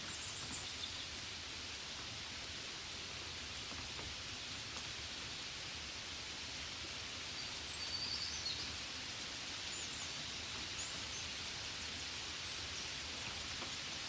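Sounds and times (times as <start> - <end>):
gentle rain hiss: 0.0 - 14.0.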